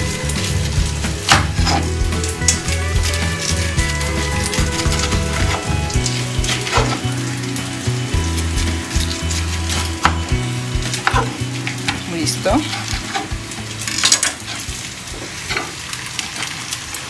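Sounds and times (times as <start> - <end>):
background music: 0.0 - 15.5.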